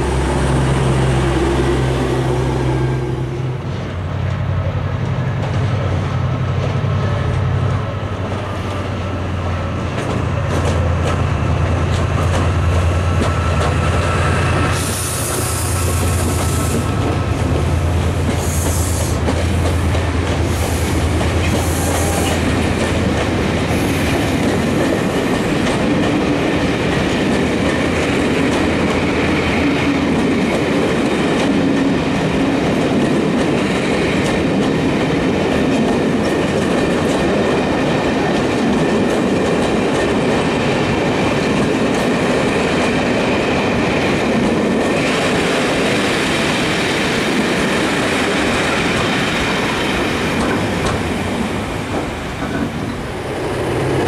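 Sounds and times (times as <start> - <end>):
diesel locomotive engine: 0.0 - 54.0
train wheels clickety-clacking: 3.6 - 54.0.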